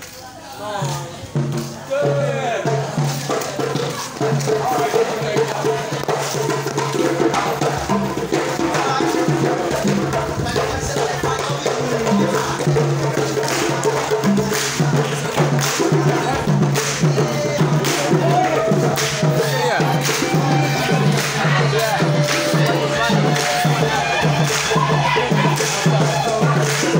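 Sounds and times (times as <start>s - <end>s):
voices: 0.0s - 26.9s
music with percussive beat: 0.6s - 26.9s.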